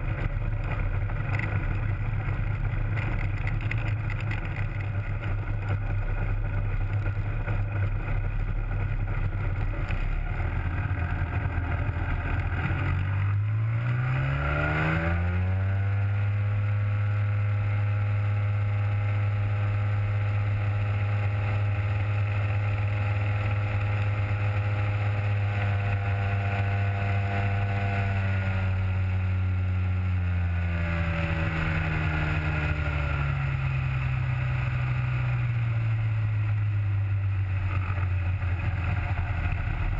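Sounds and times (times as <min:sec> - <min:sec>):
two-stroke engine and propeller: 0:00.0 - 0:39.9.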